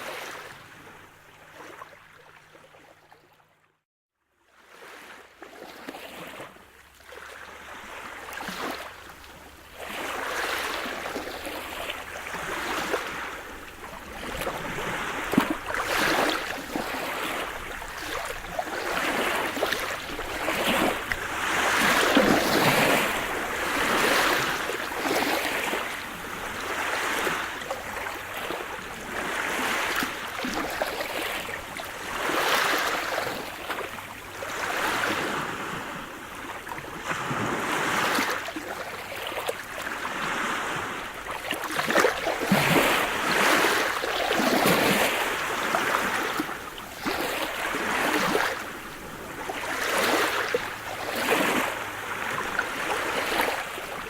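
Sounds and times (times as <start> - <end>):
waves breaking on shore: 0.0 - 2.8, 4.6 - 54.0.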